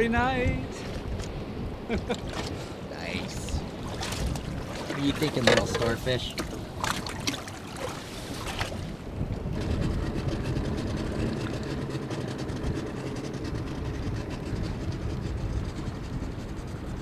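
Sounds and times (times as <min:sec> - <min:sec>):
outboard motor running: 0:00.8 - 0:17.0.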